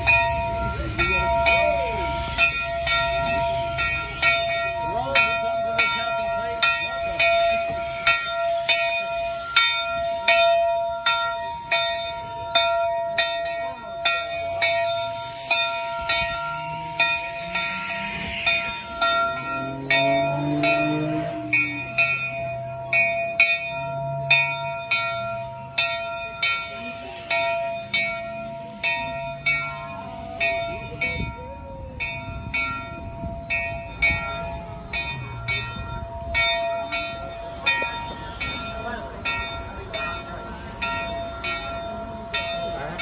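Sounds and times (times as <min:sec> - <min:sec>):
locomotive bell ringing: 0:00.0 - 0:43.0.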